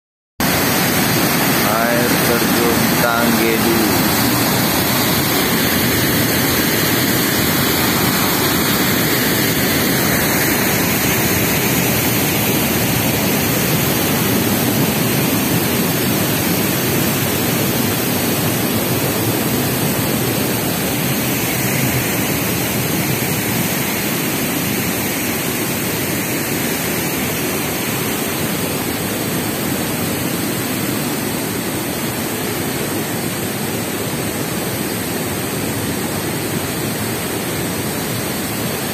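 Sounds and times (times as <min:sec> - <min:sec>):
waterfall rushing: 0:00.4 - 0:32.8.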